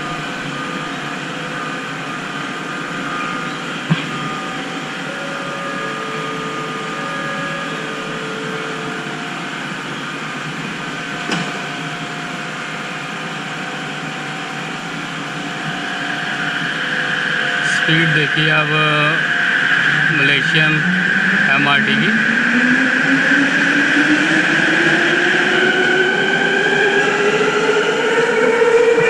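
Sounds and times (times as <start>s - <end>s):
electric train humming: 0.0s - 29.0s
held whining tones: 0.0s - 29.0s.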